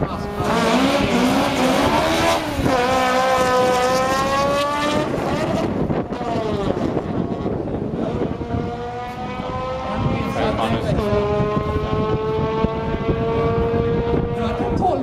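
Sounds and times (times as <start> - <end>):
drag car engine at full throttle: 0.0 - 15.0.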